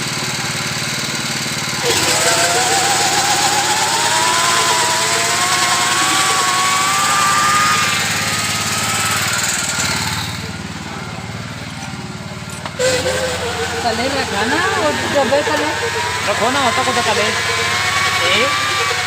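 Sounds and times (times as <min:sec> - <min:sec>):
tractor engine chugging: 0:00.0 - 0:19.0
high wavering whine: 0:01.8 - 0:19.0.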